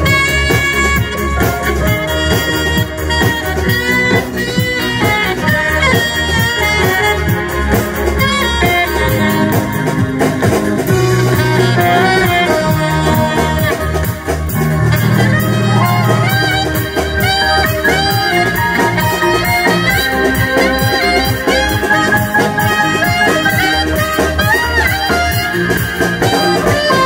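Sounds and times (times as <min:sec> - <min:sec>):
alto saxophone melody: 0:00.0 - 0:27.0
band backing with bass and beat: 0:00.0 - 0:27.0.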